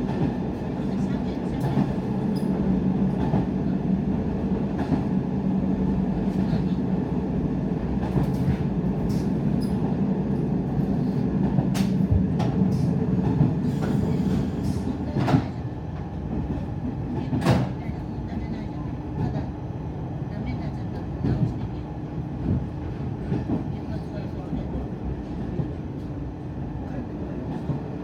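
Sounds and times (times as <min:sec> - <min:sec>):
railcar engine hum: 0:00.0 - 0:28.0.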